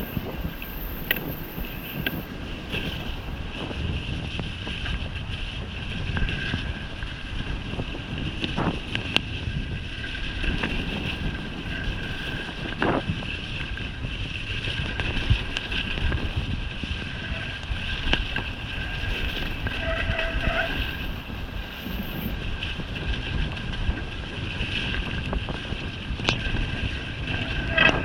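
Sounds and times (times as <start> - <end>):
bike ride rumble: 0.0 - 28.0
wind buffeting microphone: 0.0 - 28.0.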